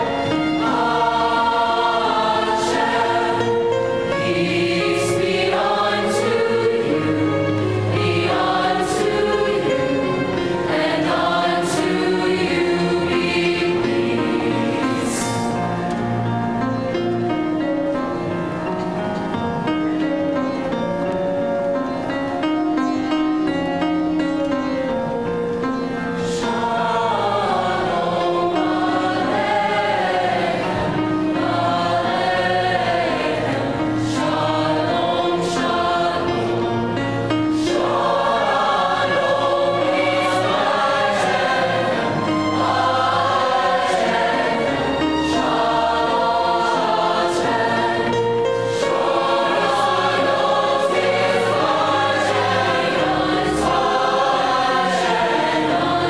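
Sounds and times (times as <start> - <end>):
mixed choir singing in harmony: 0.0 - 56.0.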